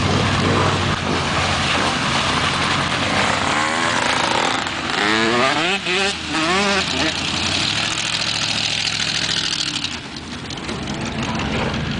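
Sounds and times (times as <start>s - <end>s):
truck engine under load: 0.0s - 11.9s
tyres splashing through mud: 0.0s - 11.9s.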